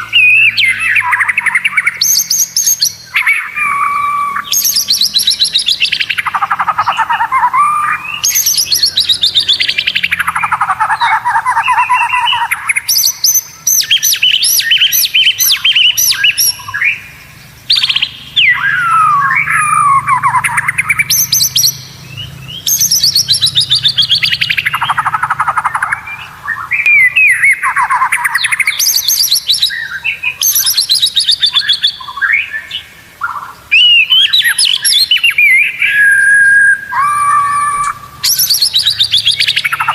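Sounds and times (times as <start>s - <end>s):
bird whistled notes: 0.0s - 17.1s, 17.7s - 39.9s
bird singing rattling trills: 0.0s - 39.9s.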